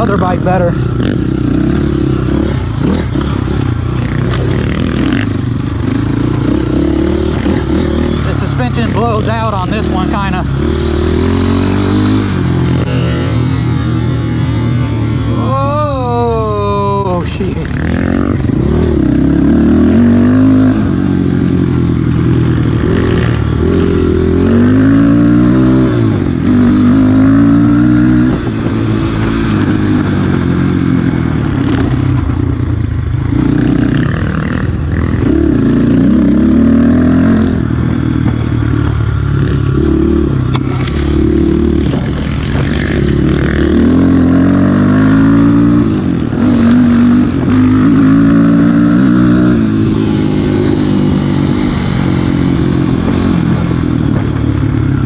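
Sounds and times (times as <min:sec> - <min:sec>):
dirt bike engine revving: 0:00.0 - 0:32.4, 0:33.2 - 0:55.0.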